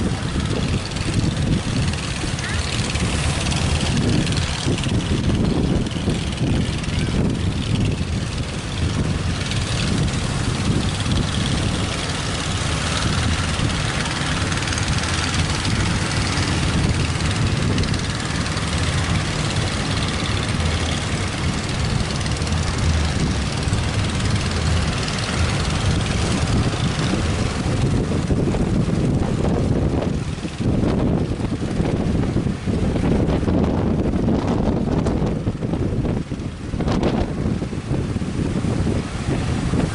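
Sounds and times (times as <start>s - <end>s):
sea and surf hiss: 0.0s - 39.9s
wind buffeting microphone: 0.0s - 39.9s.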